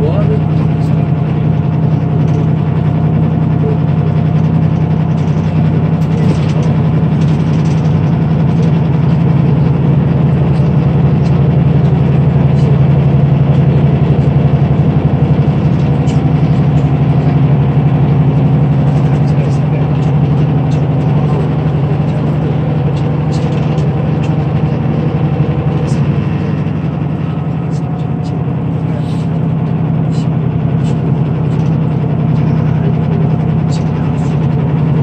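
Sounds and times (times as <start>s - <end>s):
diesel engine droning: 0.0s - 35.0s
road and tyre noise: 0.0s - 35.0s.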